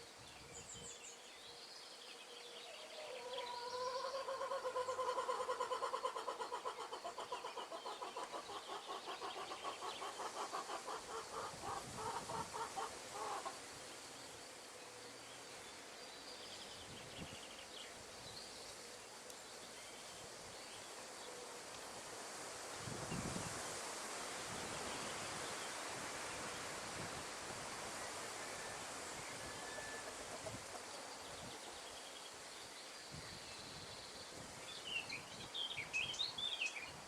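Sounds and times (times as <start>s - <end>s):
wind rustling trees: 0.0s - 37.0s.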